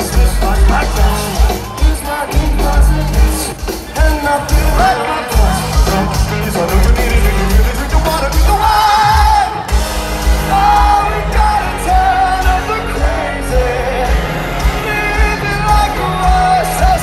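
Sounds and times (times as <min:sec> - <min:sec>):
live pop rock band: 0:00.0 - 0:17.0
man singing: 0:00.0 - 0:17.0.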